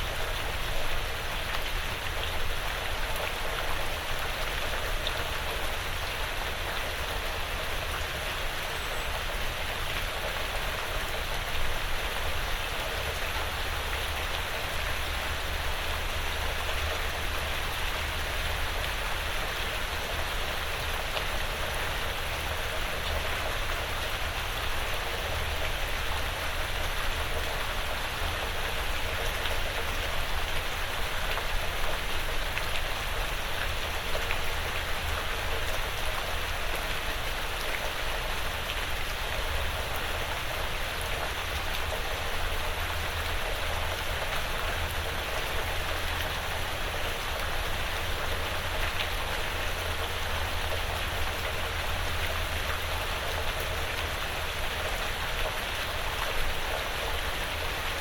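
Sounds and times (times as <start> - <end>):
light rain on roof: 0.0 - 58.0.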